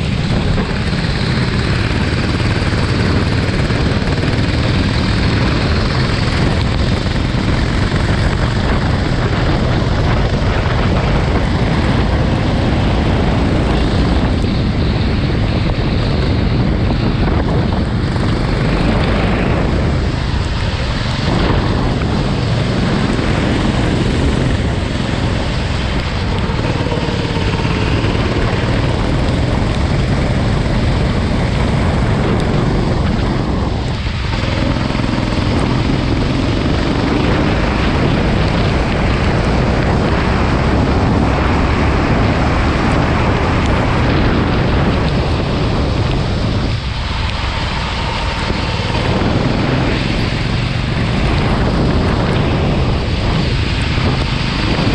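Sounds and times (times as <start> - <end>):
go-kart engine running: 0.0 - 54.9
wind noise on microphone: 0.0 - 54.9.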